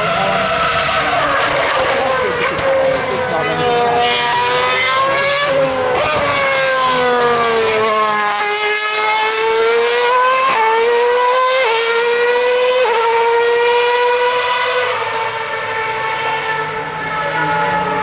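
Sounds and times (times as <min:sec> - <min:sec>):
gear changes: 0:00.0 - 0:18.0
racing car engine revving: 0:00.0 - 0:18.0.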